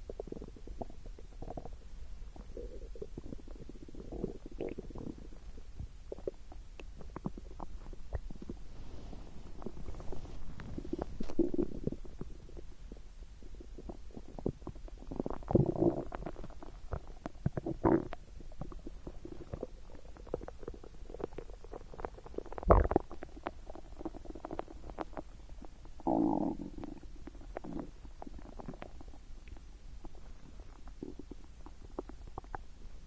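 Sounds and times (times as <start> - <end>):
stomach gurgling and rumbling: 0.0 - 33.0.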